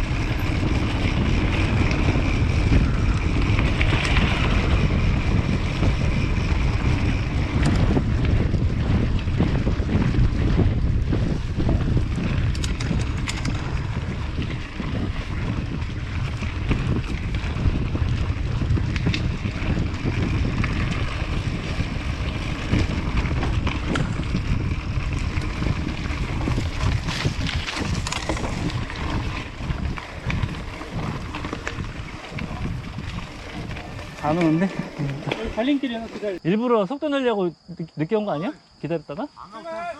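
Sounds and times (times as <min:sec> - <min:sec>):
wind buffeting microphone: 0:00.0 - 0:36.4
mountain bike rattling on trail: 0:00.0 - 0:36.5
sharp knocks and clicks from bike: 0:00.2 - 0:36.4.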